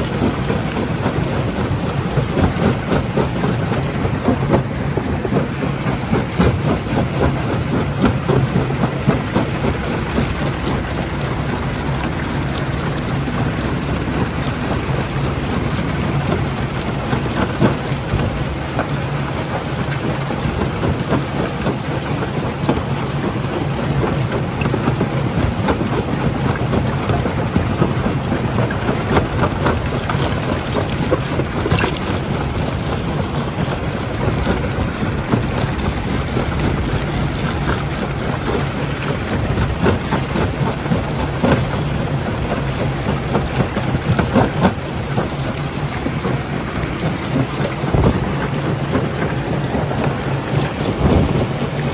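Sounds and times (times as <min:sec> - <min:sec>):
low machine hum: 0:00.0 - 0:51.9.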